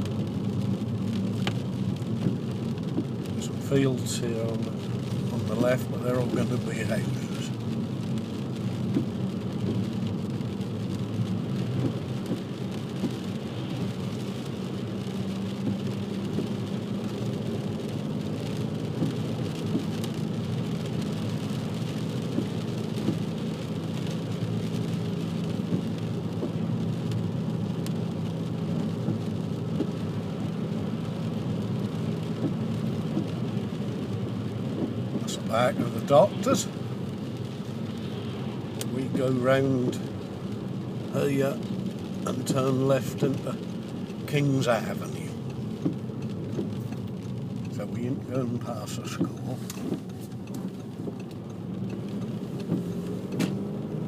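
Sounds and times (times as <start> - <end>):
car engine and road hum: 0.0 - 54.0
tyres hissing on wet road: 0.0 - 54.0.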